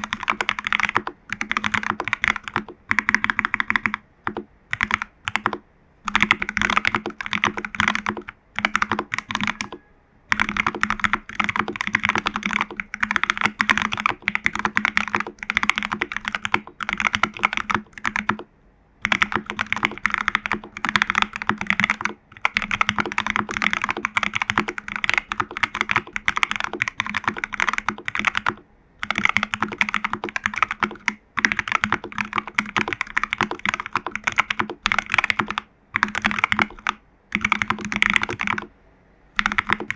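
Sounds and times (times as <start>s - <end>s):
mechanical keyboard typing: 0.0s - 38.7s, 39.4s - 39.9s.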